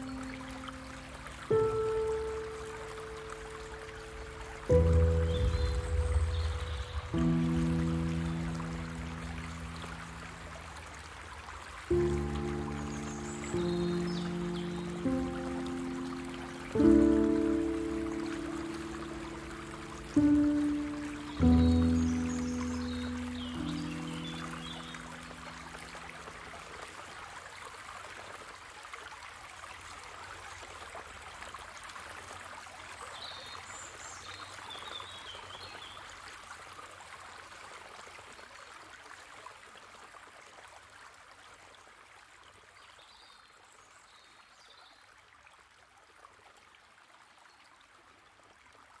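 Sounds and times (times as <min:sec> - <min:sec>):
stream water rushing: 0:00.0 - 0:42.1.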